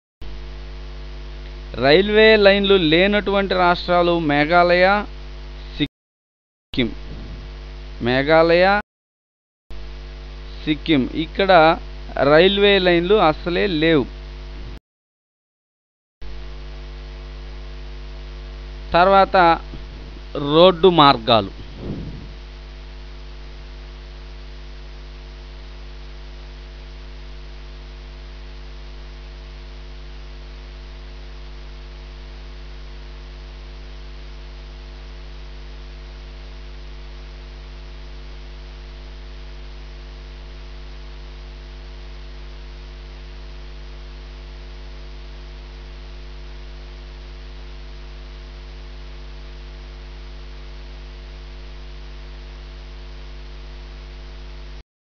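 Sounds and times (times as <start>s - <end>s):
electrical mains hum: 0.2s - 5.9s, 6.8s - 8.8s, 9.8s - 14.8s, 16.2s - 54.8s.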